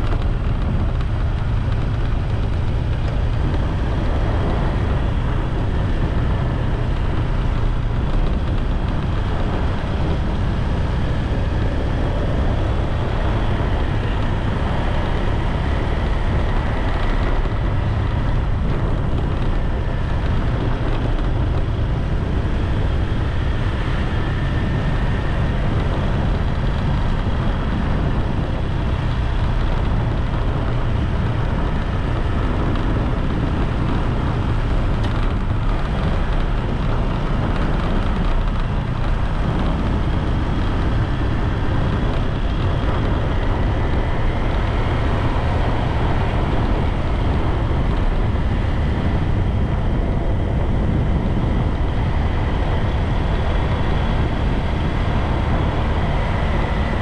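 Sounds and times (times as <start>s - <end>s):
road noise: 0.0s - 57.0s
wind buffeting microphone: 0.0s - 57.0s.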